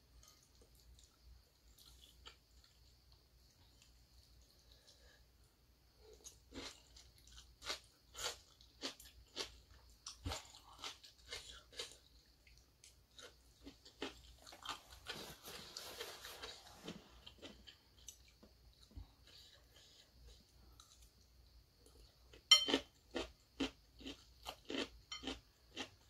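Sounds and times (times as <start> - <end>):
chewing with crunches: 0.2 - 5.2, 6.0 - 26.0.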